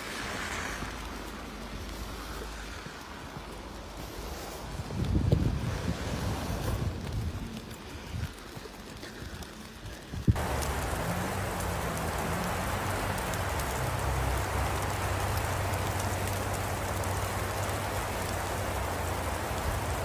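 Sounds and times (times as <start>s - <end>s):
rain-like hiss: 0.0s - 20.0s.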